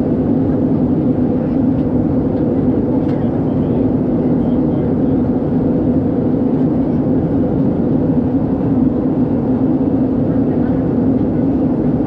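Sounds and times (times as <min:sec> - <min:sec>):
jet engine hum: 0:00.0 - 0:12.0.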